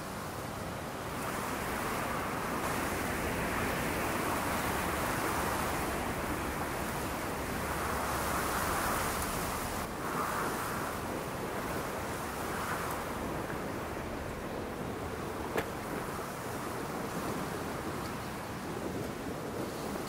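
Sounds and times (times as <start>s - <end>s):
strong wind gusting on microphone: 0.0s - 20.0s.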